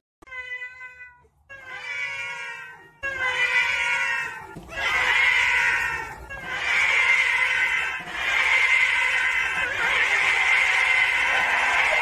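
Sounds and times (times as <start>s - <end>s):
cat meowing chorus: 0.2s - 12.0s.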